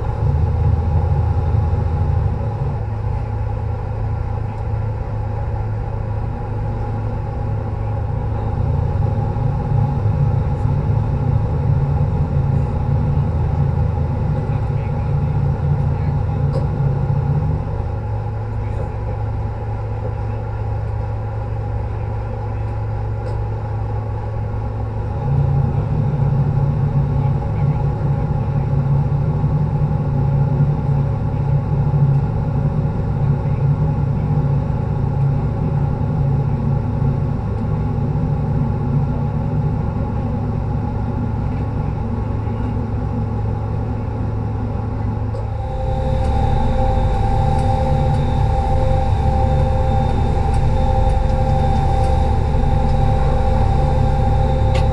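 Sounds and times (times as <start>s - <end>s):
boat engines droning: 0.0s - 54.9s.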